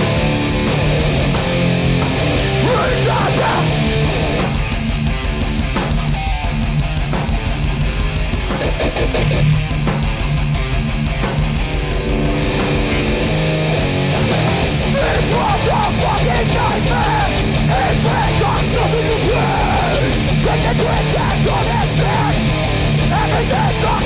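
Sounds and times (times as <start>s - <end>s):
punk band playing loud: 0.0s - 24.0s.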